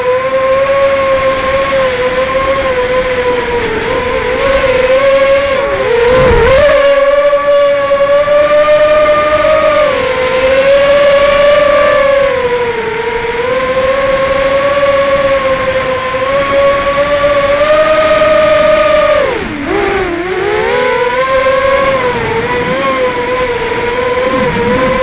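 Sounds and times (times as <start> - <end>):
quadcopter motors whining: 0.0 - 25.0
low wind rumble: 0.1 - 20.2, 20.8 - 25.0.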